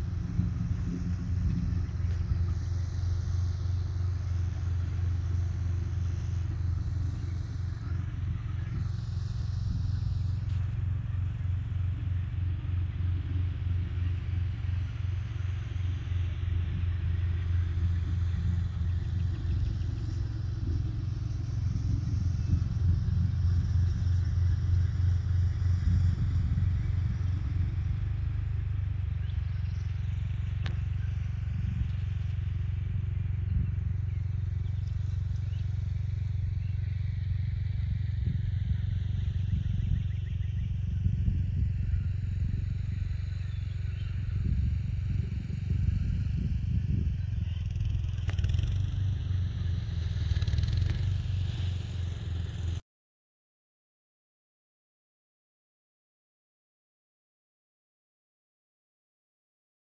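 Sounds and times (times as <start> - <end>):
engine idling: 0.0 - 52.8.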